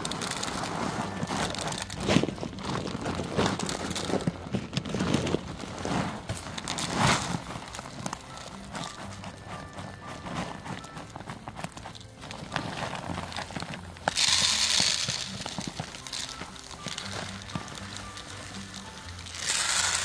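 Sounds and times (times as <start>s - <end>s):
plastic bag crinkling and rustling: 0.0s - 20.0s.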